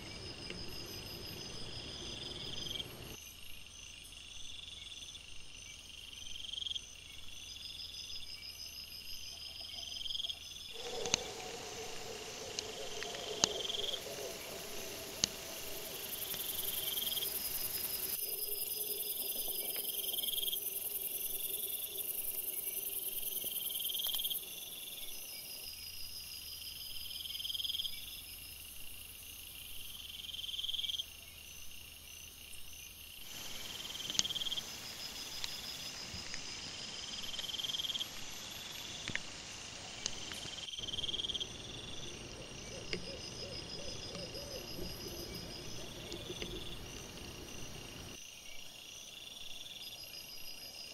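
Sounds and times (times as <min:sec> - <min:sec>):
crickets chirping: 0:00.0 - 0:50.9
background hiss: 0:06.8 - 0:50.9.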